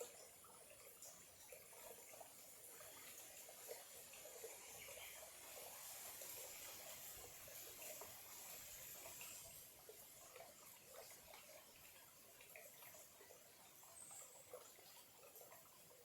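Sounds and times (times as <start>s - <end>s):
stream trickling and gurgling: 0.0s - 16.0s.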